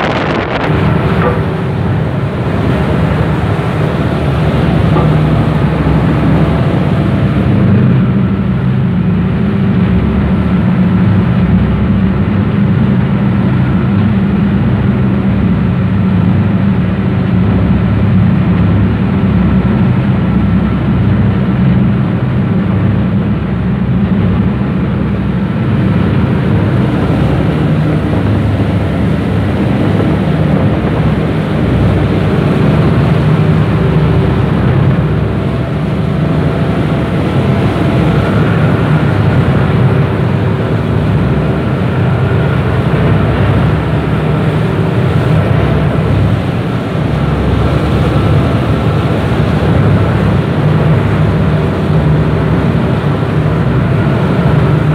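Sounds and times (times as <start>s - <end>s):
boat engine drone: 0.0s - 54.9s
churning wake water: 0.0s - 54.9s.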